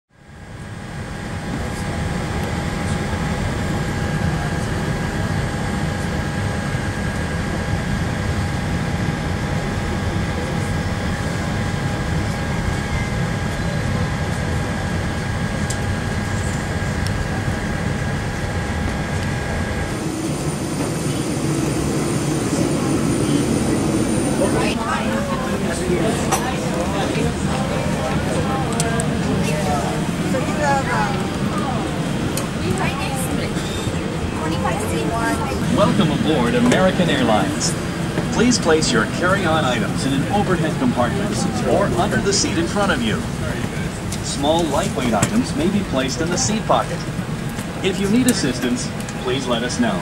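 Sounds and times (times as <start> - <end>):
machinery rumbling hum with whine: 0.1 - 50.0
jet bridge hum: 0.4 - 50.0.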